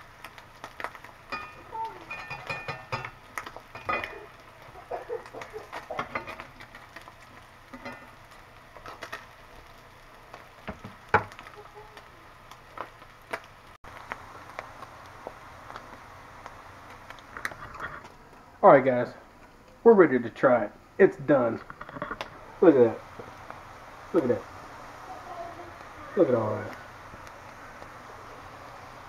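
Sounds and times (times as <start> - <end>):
meat sizzling in oil: 0.0 - 29.0.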